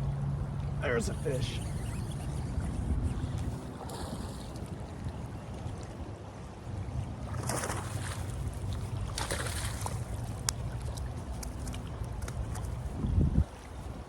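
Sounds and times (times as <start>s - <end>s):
wind buffeting microphone: 1.5s - 14.0s.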